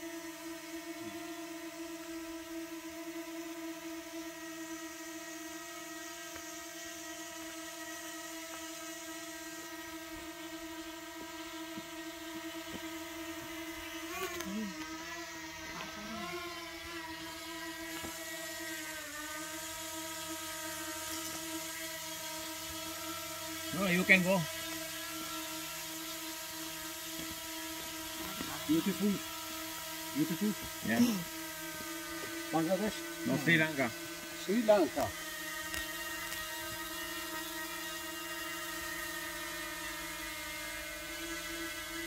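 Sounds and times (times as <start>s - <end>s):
drone propellers whining: 4.5s - 41.1s.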